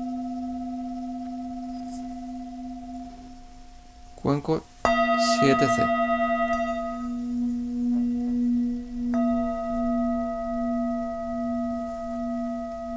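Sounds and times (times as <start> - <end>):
singing bowl ringing: 0.0 - 12.9.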